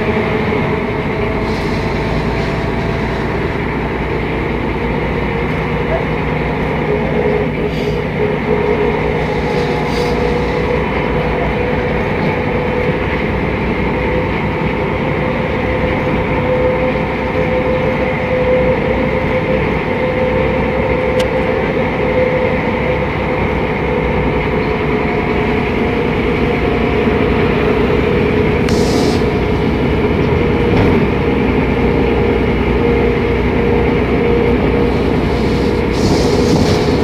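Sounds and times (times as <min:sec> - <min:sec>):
bus diesel engine drone: 0:00.0 - 0:37.0
constant whine: 0:00.0 - 0:37.0
road rumble: 0:00.0 - 0:37.0.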